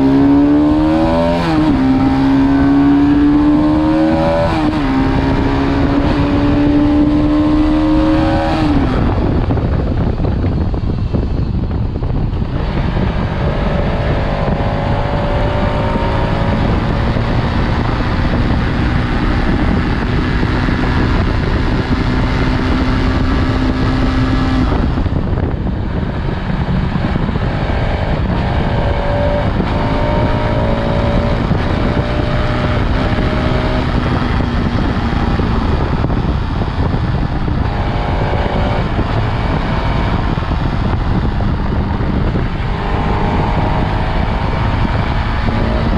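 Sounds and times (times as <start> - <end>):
motorcycle engine accelerating: 0.0 - 45.9
wind blast on microphone: 0.0 - 45.9.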